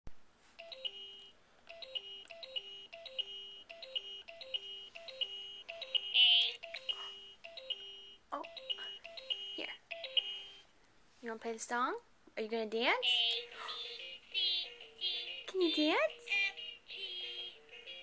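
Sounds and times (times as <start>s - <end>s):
electronic toy beeping tune: 0.6s - 10.7s, 13.0s - 18.0s.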